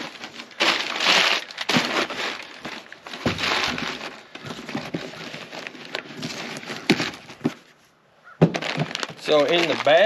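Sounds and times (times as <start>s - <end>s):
paper crinkling and rustling: 0.0s - 7.8s, 8.4s - 10.0s.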